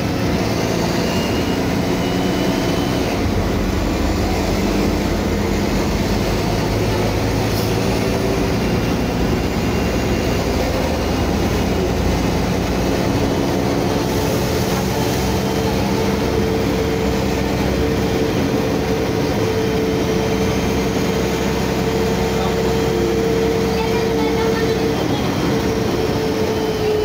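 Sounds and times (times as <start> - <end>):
bus diesel engine running: 0.0 - 27.0
steady whine: 0.0 - 27.0.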